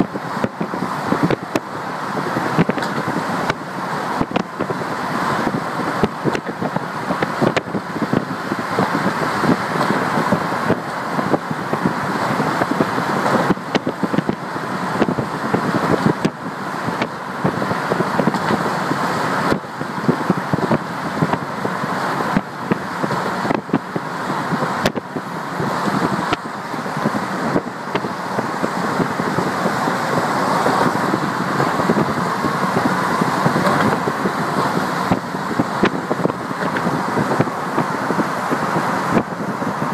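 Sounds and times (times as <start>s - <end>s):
road noise inside car: 0.0s - 39.9s.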